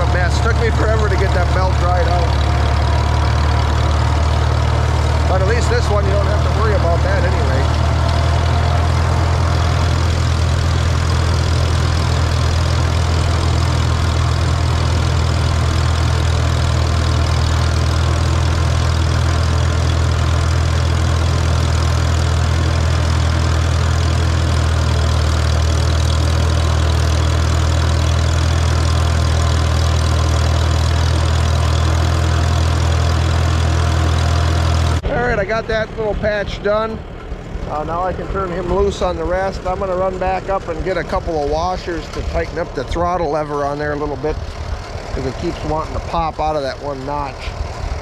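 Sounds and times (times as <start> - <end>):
tractor engine droning: 0.0 - 48.0.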